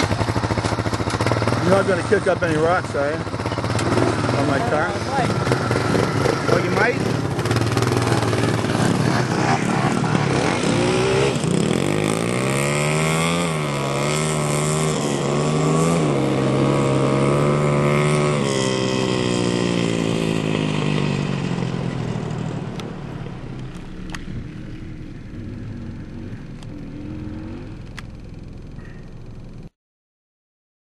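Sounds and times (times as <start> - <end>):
quad engine revving: 0.0 - 29.7.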